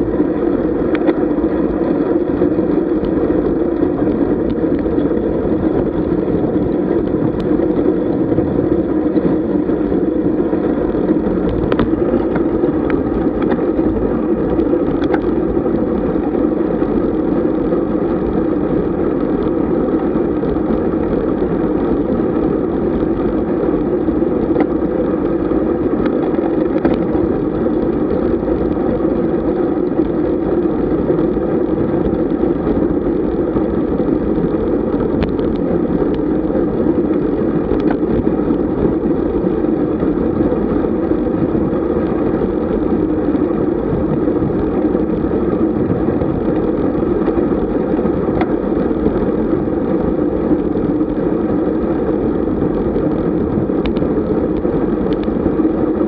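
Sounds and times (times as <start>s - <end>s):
bicycle road noise: 0.0s - 56.0s
wind: 0.0s - 56.0s.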